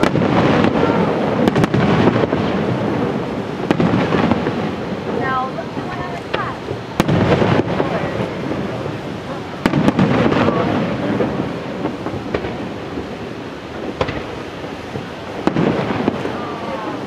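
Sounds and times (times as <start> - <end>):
fireworks bursting: 0.0 - 17.0
low rolling rumble: 0.0 - 17.0.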